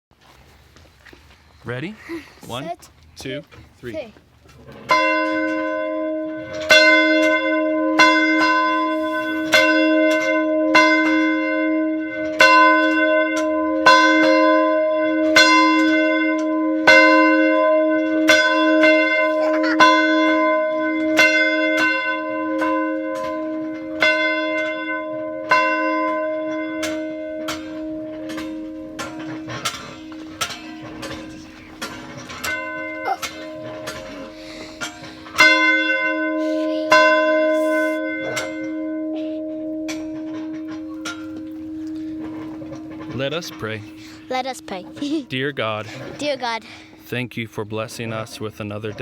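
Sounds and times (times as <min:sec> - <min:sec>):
church bell tolling: 0:04.7 - 0:46.9.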